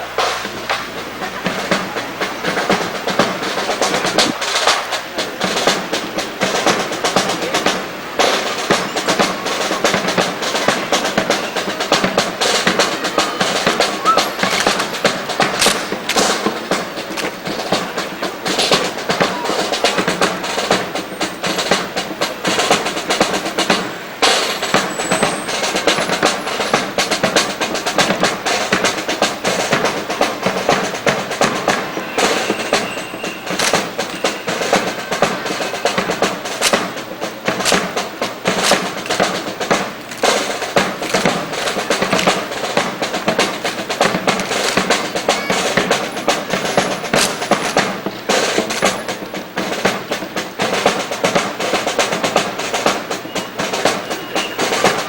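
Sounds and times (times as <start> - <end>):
drum-led music: 0.0 - 55.0
snare drum rolls: 0.0 - 55.0.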